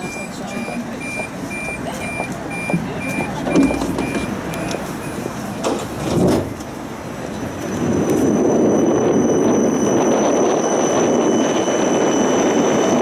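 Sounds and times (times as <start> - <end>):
tram door warning beeps: 0.0 - 6.0, 7.2 - 13.0
passenger chatter: 0.0 - 13.0.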